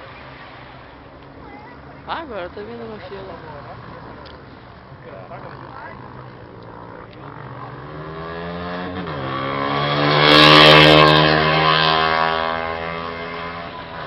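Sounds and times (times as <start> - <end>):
vehicle engine driving past: 1.8 - 14.0.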